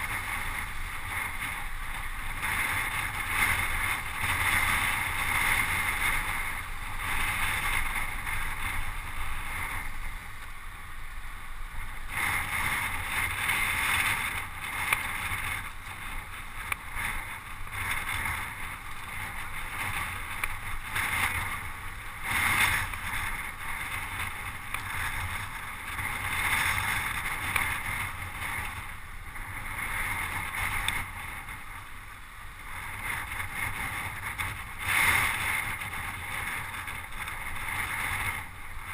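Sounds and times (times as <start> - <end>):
wind and road noise: 0.0 - 38.9
wind buffeting microphone: 0.0 - 38.9.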